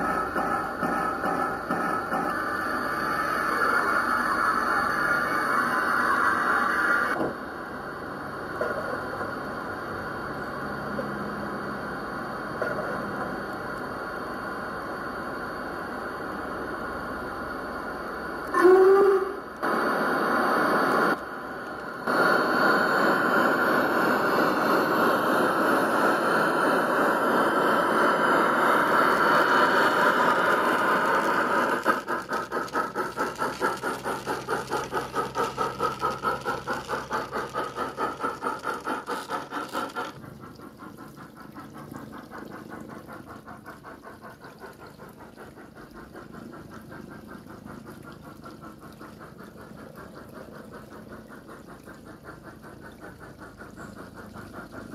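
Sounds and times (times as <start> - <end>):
rhythmic locomotive chuffing: 0.0 - 54.9
steam hiss: 0.0 - 54.9.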